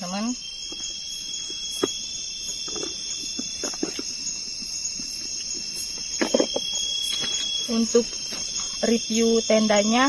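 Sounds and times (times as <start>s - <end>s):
night insects chirping: 0.0s - 10.0s.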